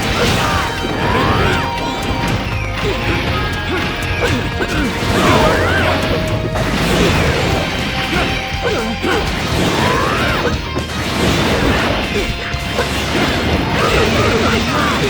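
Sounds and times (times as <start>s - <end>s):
background music: 0.0s - 15.0s
game hits and smashes: 0.0s - 15.0s.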